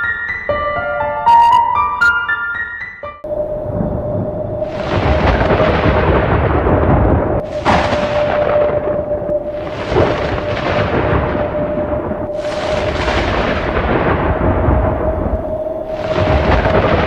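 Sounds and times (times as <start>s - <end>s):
thunder cracks and rumbles: 3.3s - 17.0s.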